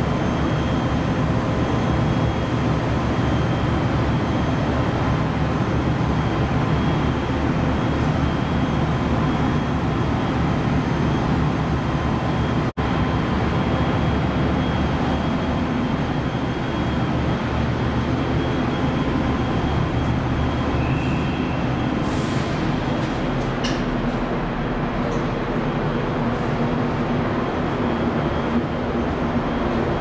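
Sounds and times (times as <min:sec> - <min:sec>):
steady high whine: 0:00.0 - 0:30.0.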